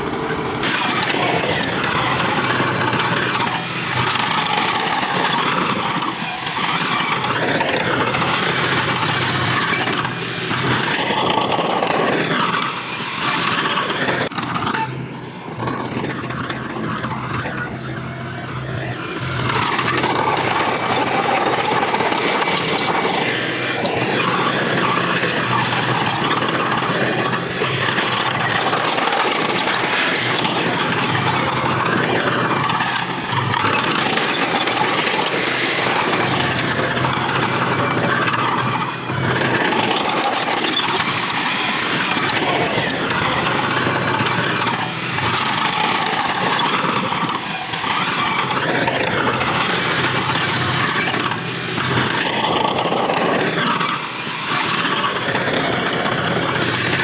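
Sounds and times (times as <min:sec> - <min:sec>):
diesel engines of earthmoving machinery: 0:00.0 - 0:57.0.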